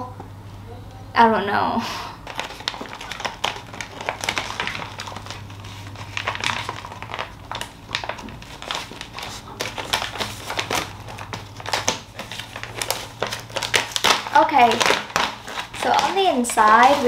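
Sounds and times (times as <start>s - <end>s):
packaging rustling and crinkling: 2.2s - 17.0s.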